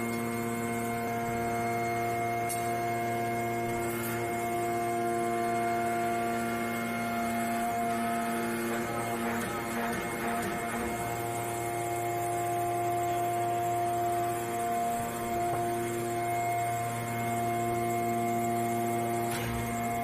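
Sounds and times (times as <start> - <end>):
hydraulic press hum and whine: 0.0 - 20.0.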